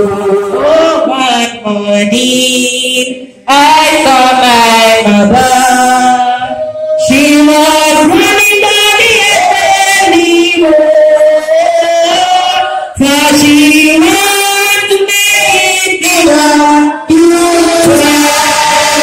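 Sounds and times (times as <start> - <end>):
woman singing into a microphone: 0.0 - 19.0.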